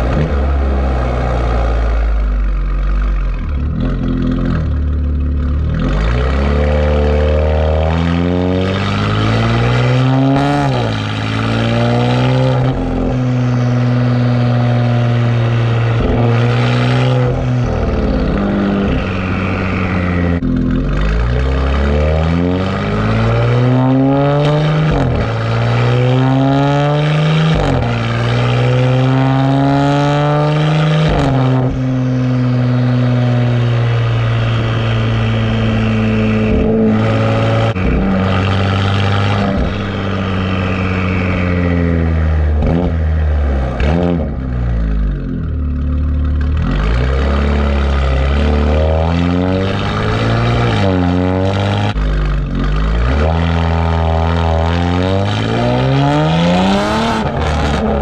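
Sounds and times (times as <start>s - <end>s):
car engine revving and shifting: 0.0s - 58.0s.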